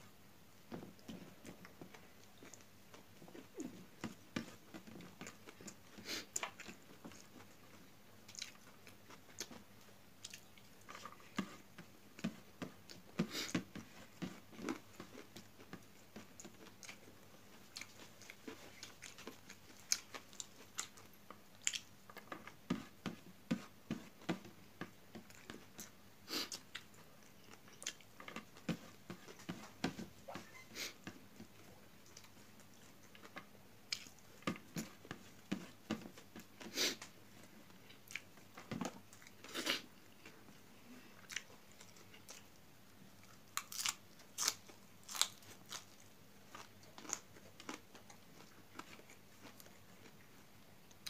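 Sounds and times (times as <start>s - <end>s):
person chewing food: 0.7s - 51.0s.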